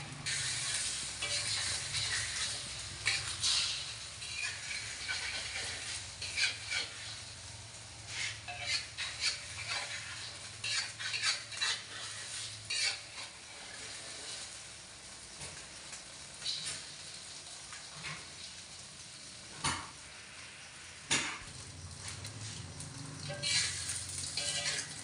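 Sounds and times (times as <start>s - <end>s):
omelette sizzling: 0.0s - 25.0s
metal spatula scraping a wok: 0.2s - 15.6s, 16.4s - 18.8s, 21.1s - 25.0s.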